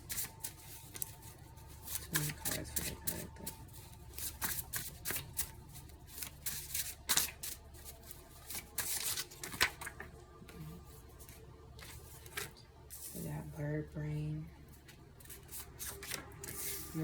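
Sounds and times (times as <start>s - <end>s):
cards being shuffled: 0.0s - 13.1s, 14.8s - 17.0s.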